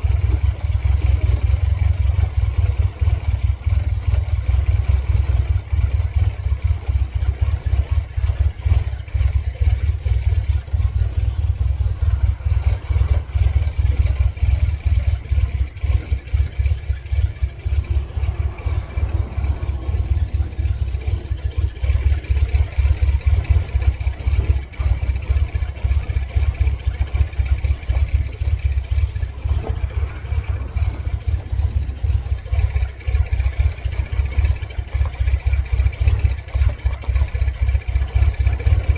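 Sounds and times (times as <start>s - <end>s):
car engine idling unevenly: 0.0s - 38.9s.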